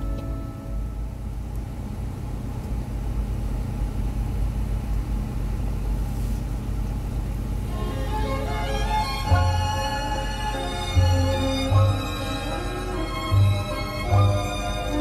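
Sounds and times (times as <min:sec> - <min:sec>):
car engine rumble: 0:00.0 - 0:15.0
road noise inside car: 0:00.0 - 0:15.0.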